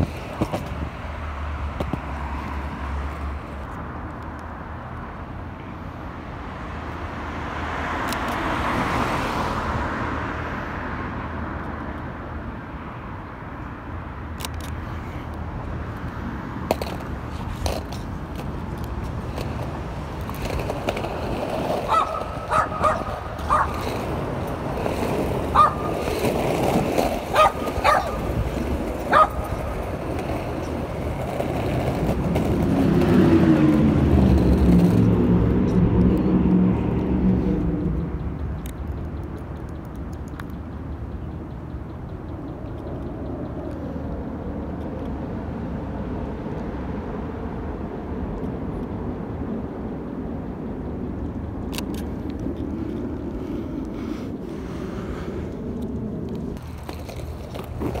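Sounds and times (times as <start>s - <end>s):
skateboard wheels on asphalt: 0.0s - 58.0s.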